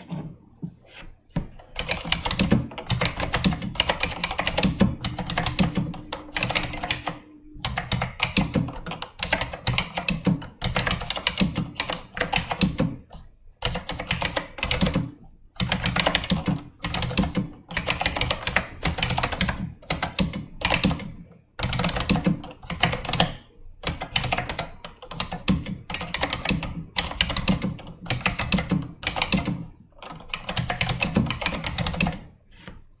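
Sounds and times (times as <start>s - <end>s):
keyboard keys clicking: 1.8s - 32.3s.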